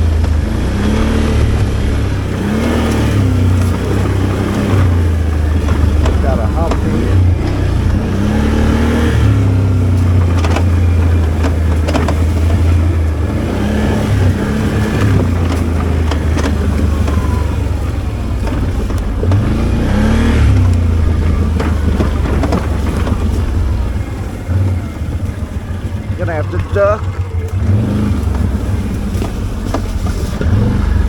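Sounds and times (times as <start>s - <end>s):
atv engine running under load: 0.0s - 31.0s
machine jolting over ground: 2.3s - 31.0s.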